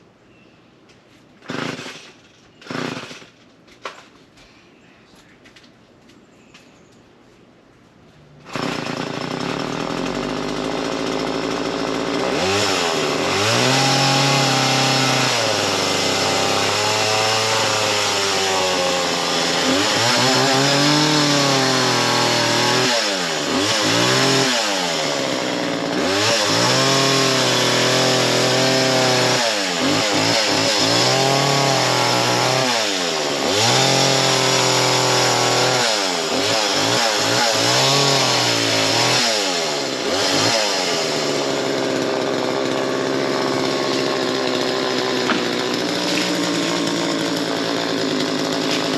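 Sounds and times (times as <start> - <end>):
chainsaw engine revving: 1.4 - 3.4, 8.4 - 48.9.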